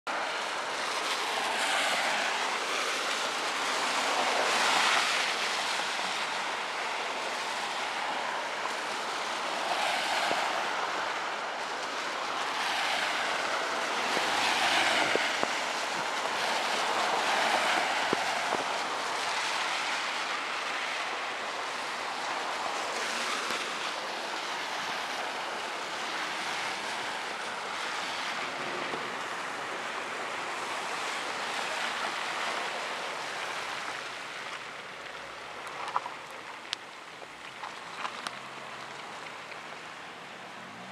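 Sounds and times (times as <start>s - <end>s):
car tyres swishing on wet road: 0.1s - 40.9s
rain hiss: 0.1s - 40.9s.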